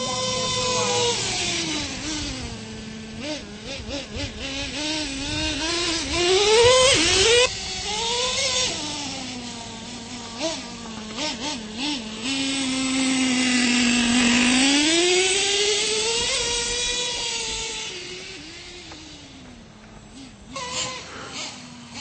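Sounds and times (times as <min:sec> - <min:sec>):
toy truck motor running: 0:00.0 - 0:22.0.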